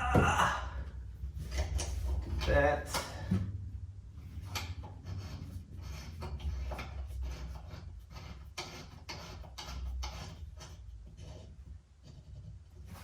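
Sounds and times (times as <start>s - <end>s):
fitting scraping and clicking: 0.8s - 13.0s.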